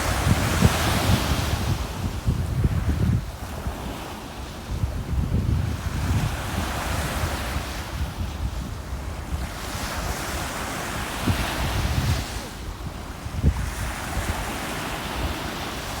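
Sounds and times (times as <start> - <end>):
ocean waves breaking: 0.0 - 16.0
wind buffeting microphone: 0.0 - 16.0.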